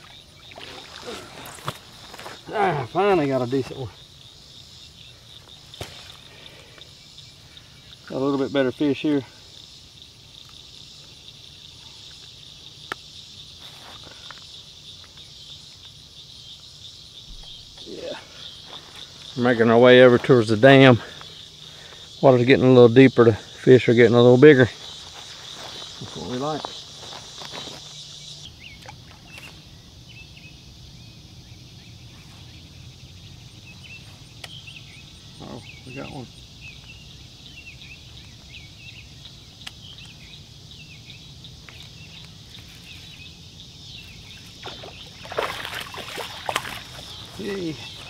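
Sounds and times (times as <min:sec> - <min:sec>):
crickets and insects chirring: 0:00.0 - 0:48.0.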